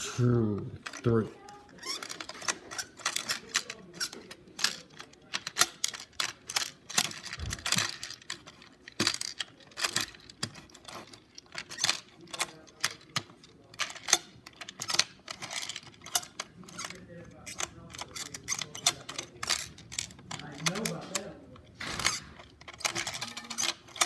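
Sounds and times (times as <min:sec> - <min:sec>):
toy packaging crinkling: 0:00.8 - 0:24.0.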